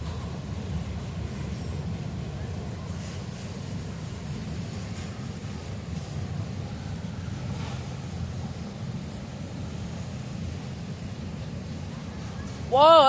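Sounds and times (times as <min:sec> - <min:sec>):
freight train cars rumbling past: 0:00.0 - 0:13.0.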